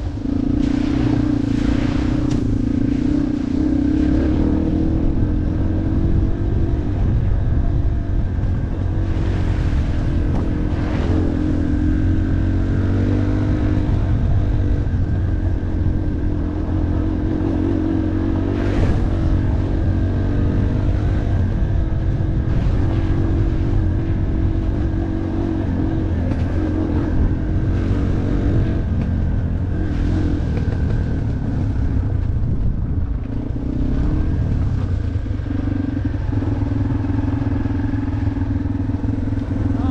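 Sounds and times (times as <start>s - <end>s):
low rumble: 0.0s - 39.9s
motorcycle engine revving: 0.0s - 39.9s.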